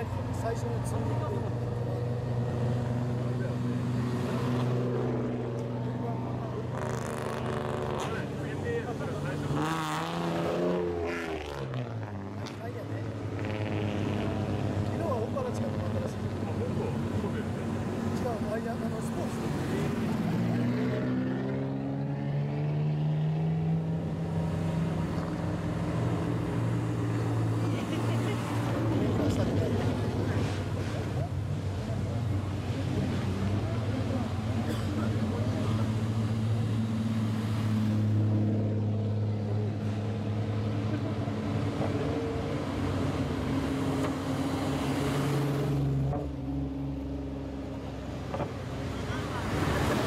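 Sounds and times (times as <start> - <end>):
car engines droning: 0.0 - 50.0.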